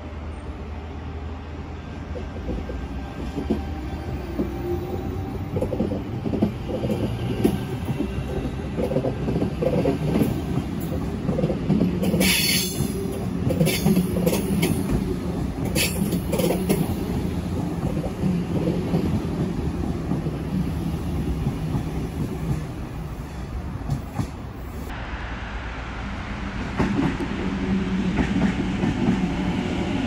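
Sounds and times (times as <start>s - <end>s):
train motors and wheels rumbling: 0.0s - 30.0s.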